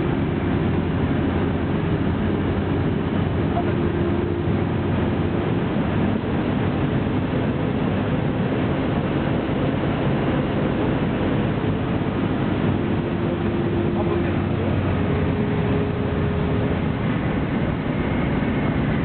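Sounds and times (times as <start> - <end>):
aircraft engine droning: 0.0 - 19.0
rushing air: 0.0 - 19.0.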